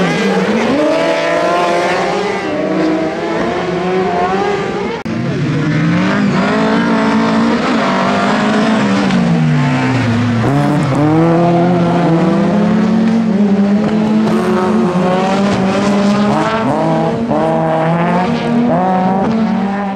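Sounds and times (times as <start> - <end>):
race car engines racing past: 0.0 - 19.9.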